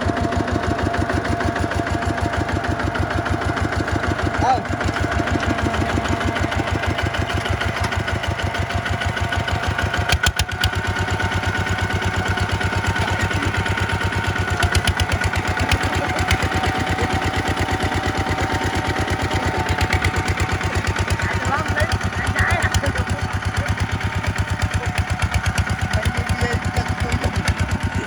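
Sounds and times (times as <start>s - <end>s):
tractor engine chugging: 0.0s - 28.0s.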